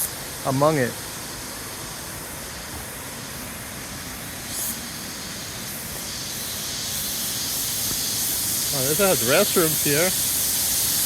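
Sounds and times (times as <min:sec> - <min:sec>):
high hiss: 0:00.0 - 0:11.0.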